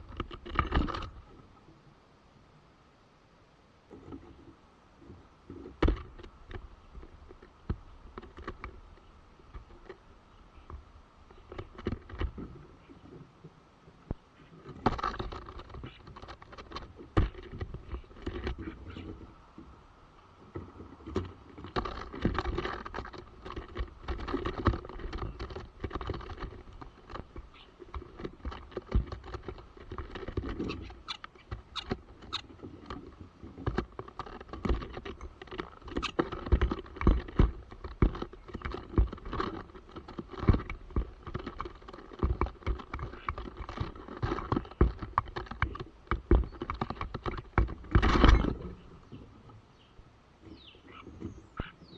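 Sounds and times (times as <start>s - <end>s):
birds tapping on wood: 0.0s - 1.4s, 3.9s - 51.9s.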